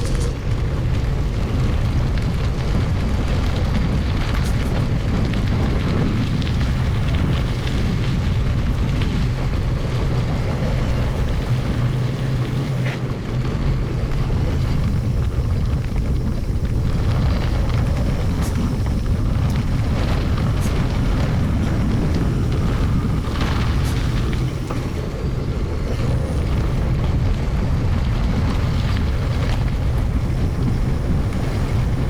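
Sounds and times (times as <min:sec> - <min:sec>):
bike ride rumble: 0:00.0 - 0:32.0
wind buffeting microphone: 0:00.0 - 0:32.0.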